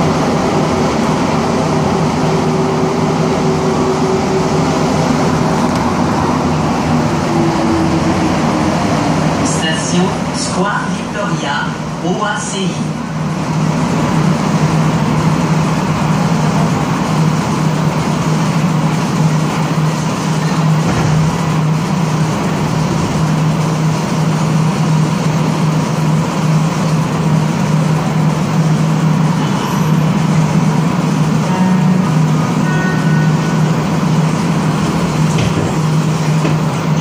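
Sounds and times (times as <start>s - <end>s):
metro train hum and rushing: 0.0s - 37.0s.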